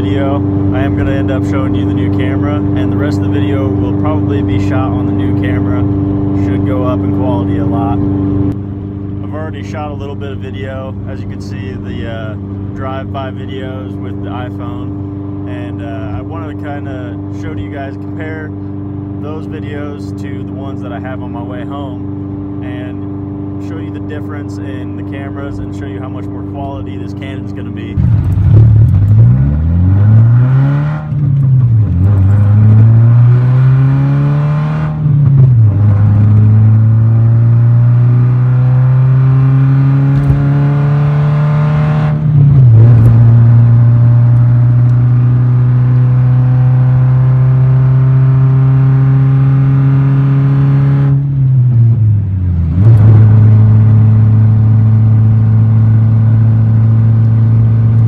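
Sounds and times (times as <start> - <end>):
loud car exhaust accelerating: 0.0 - 58.0.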